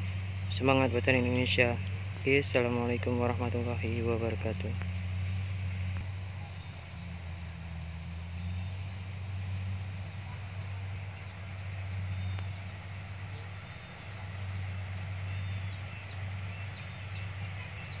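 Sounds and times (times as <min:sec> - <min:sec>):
birds chirping: 0:00.0 - 0:18.0
combine harvester engine drone: 0:00.0 - 0:18.0.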